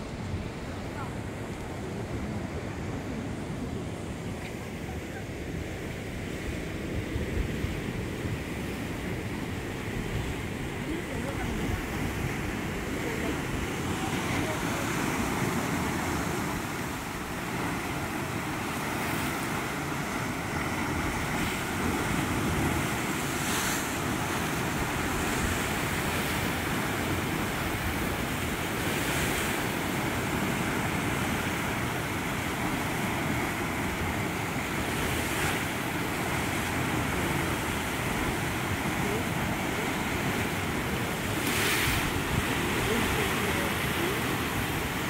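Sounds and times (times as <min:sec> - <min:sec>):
sea surf breaking on cliffs: 0:00.0 - 0:45.0.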